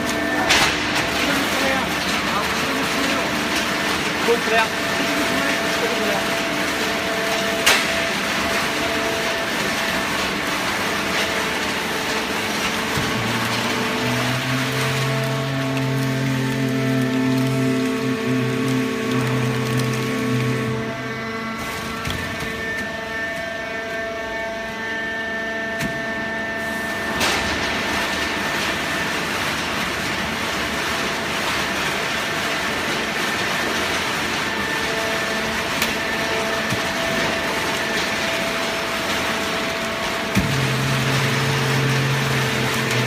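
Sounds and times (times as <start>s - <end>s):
baler machine hum: 0.0s - 43.0s.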